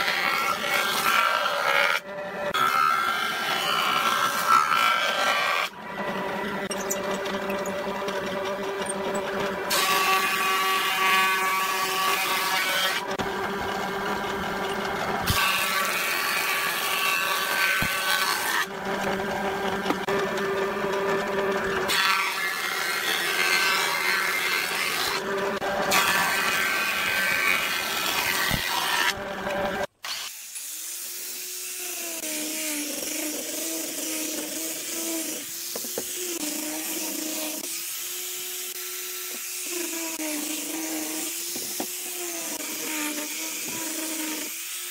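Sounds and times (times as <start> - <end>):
thickness planer motor humming: 0.0 - 29.9, 32.0 - 44.8
angle grinder sanding wood: 0.0 - 44.9
planer cutting wood: 0.0 - 44.9.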